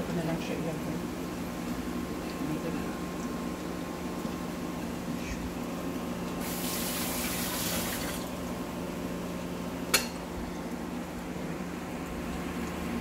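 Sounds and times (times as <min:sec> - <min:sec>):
bread frying in oil: 0:00.0 - 0:13.0
cooker low hum: 0:00.0 - 0:13.0.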